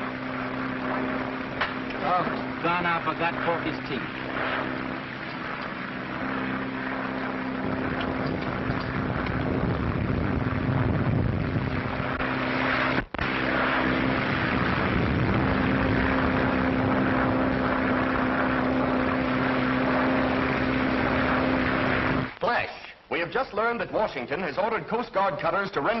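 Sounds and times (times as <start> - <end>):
propeller airplane engine droning: 0.0 - 22.4.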